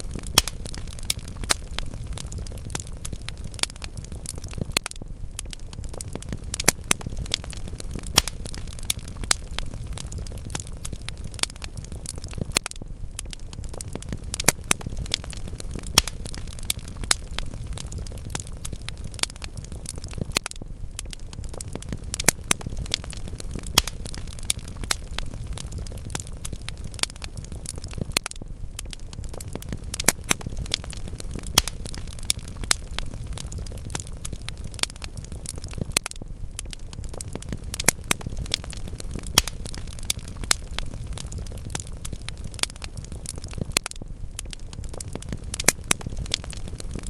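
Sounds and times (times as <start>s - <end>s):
fire crackling and popping: 0.0s - 47.0s
low rumble of flames: 0.0s - 47.0s.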